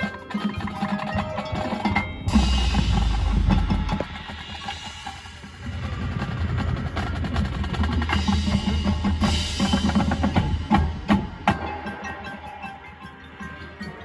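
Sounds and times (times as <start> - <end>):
drumline beating: 0.0 - 14.0
marching band playing: 0.0 - 14.0.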